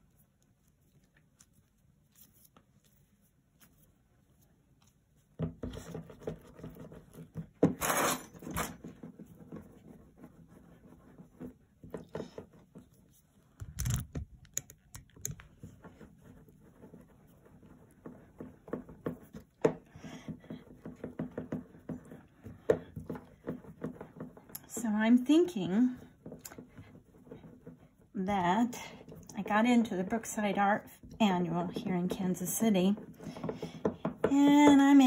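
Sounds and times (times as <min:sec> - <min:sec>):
hands rubbing clay on table: 0:00.0 - 0:08.1, 0:08.8 - 0:35.0.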